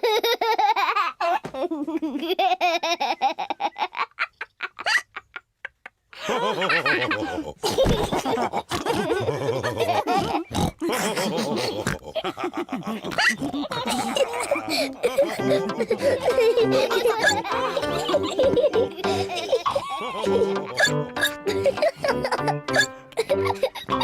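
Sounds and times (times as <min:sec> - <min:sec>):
cartoon pigs laughing and snorting: 0:00.0 - 0:24.0.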